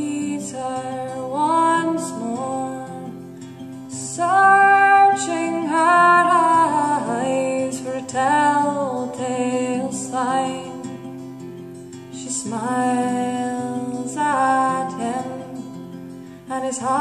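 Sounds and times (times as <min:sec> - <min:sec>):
acoustic guitar: 0:00.0 - 0:17.0
woman singing folk melody: 0:00.0 - 0:17.0.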